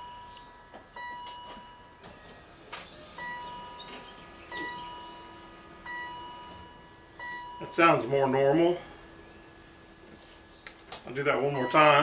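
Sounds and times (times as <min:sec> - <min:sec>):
car warning chime: 0:00.0 - 0:10.1, 0:11.1 - 0:12.0.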